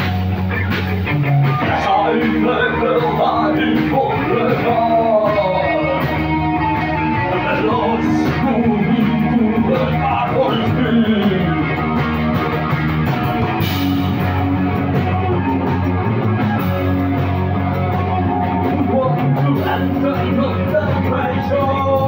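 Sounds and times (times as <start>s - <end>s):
drum kit: 0.0s - 22.0s
electric guitar: 0.0s - 22.0s.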